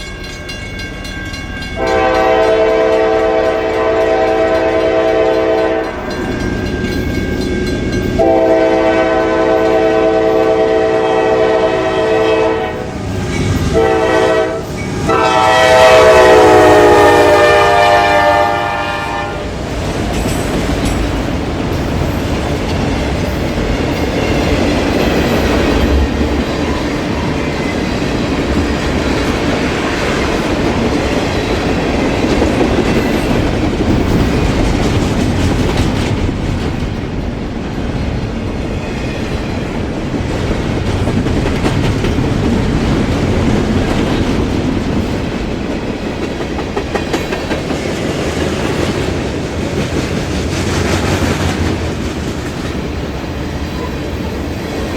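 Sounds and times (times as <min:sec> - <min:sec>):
train wheels clattering on rails: 0:00.0 - 0:18.4, 0:19.2 - 0:54.9.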